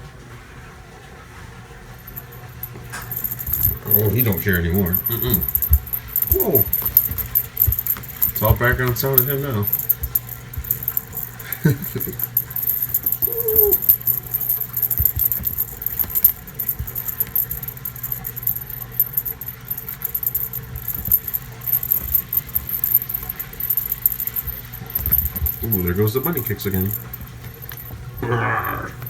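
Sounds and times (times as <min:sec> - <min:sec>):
washing machine humming: 0:00.0 - 0:29.0
cat toy rattling and jingling: 0:02.0 - 0:29.0.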